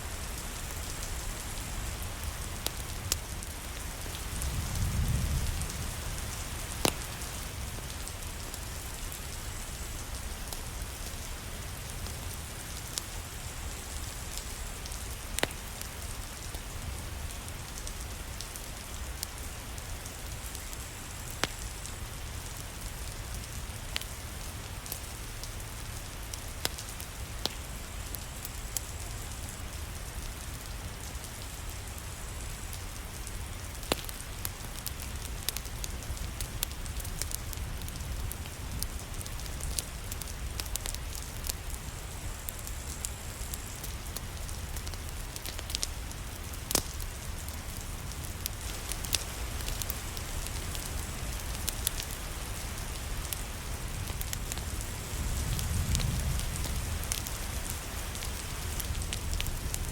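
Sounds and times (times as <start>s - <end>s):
steady rain falling: 0.0s - 59.9s
fireplace crackling and popping: 0.3s - 59.9s.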